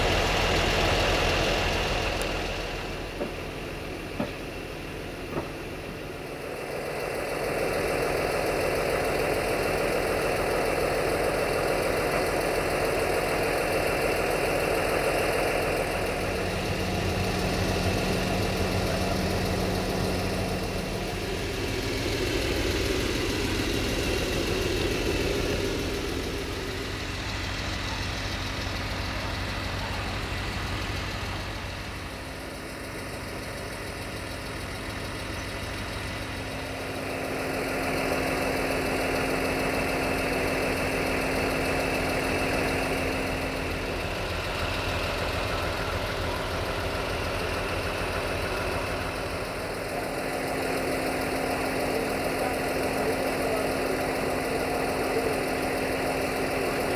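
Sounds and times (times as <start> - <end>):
diesel train engine idling: 0.0 - 56.9.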